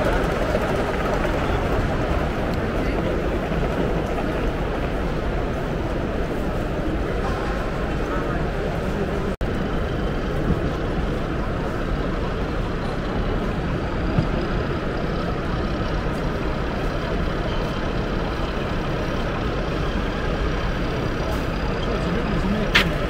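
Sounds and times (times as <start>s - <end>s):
crowd of visitors murmuring: 0.0s - 23.0s.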